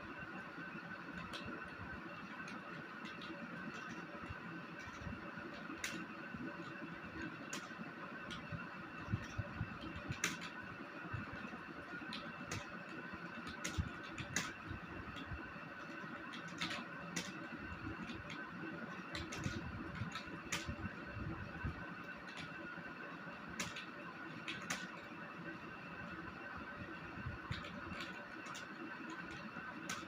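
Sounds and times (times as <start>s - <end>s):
steady background hum: 0.0s - 30.0s
computer keyboard clicking: 1.1s - 30.0s.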